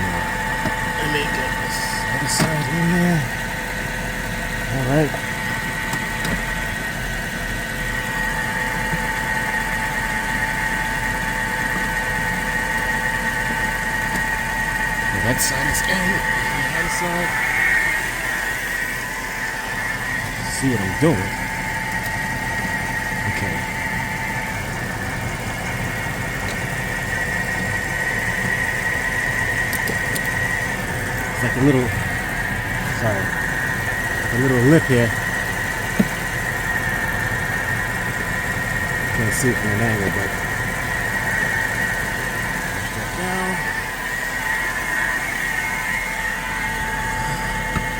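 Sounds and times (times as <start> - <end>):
car engine idling: 0.0 - 47.9
high-pitched whine: 0.0 - 47.9.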